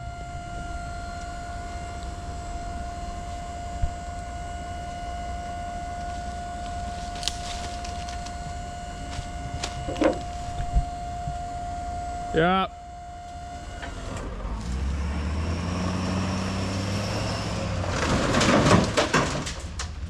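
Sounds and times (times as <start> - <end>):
high-pitched whine: 0.0 - 17.9
dump truck engine rumble: 0.0 - 20.0.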